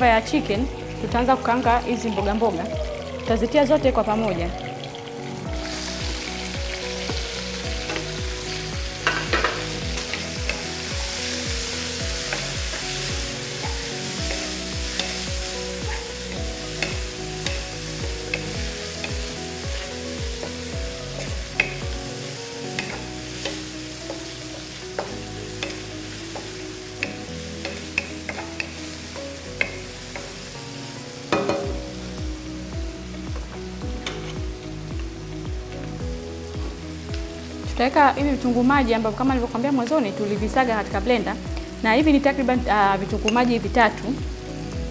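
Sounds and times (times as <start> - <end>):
vegetables sizzling in oil: 0.0 - 44.9.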